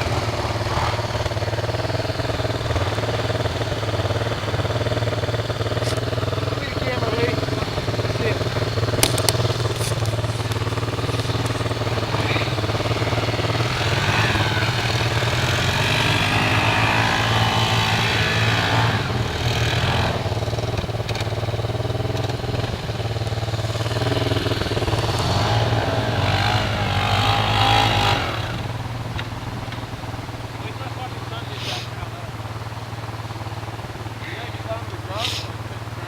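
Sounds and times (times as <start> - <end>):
atv engine revving: 0.0 - 36.0.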